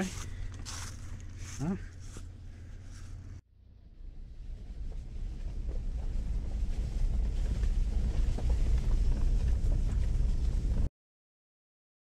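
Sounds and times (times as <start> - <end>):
car engine and tyres rumbling: 0.0 - 10.9.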